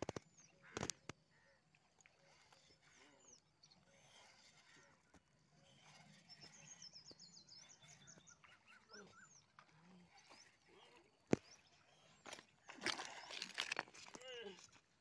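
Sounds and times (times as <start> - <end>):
faint songbird calls: 0.0 - 14.7.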